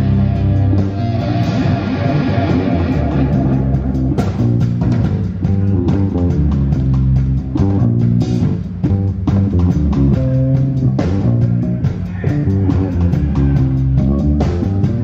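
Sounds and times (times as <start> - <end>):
heavy metal band playing live: 0.0 - 15.0.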